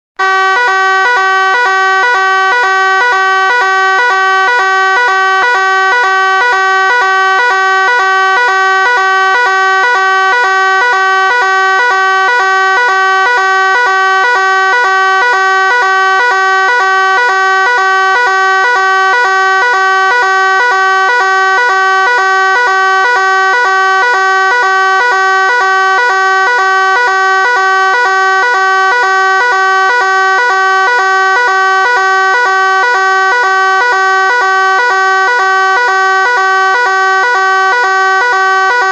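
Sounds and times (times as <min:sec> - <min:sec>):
fire alarm electronic tone pattern: 0:00.2 - 0:38.9.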